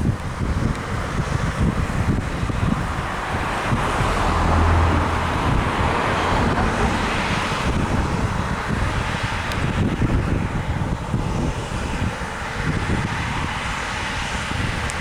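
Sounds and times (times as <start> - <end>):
combine harvester engine rumble: 0.0 - 15.0
wind buffeting microphone: 0.0 - 15.0.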